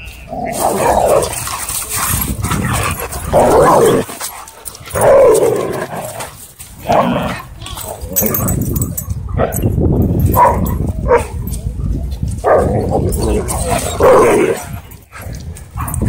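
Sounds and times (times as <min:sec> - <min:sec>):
dogs growling and barking: 0:00.3 - 0:11.5, 0:12.4 - 0:16.0.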